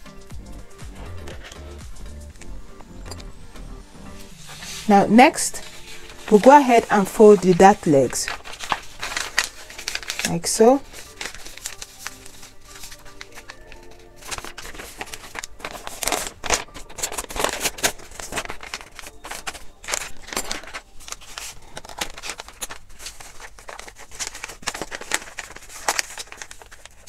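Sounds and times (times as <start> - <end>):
stiff paper rustling and crinkling: 4.2 - 27.0.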